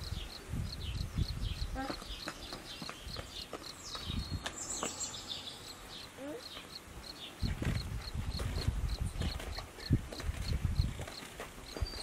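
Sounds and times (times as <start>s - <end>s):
small songbirds chirping: 0.0s - 12.0s.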